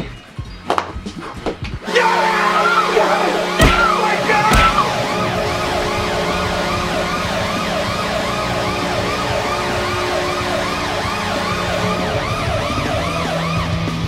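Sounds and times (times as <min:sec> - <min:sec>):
siren wailing up and down: 0:01.8 - 0:14.0
steady low hum: 0:02.1 - 0:13.8.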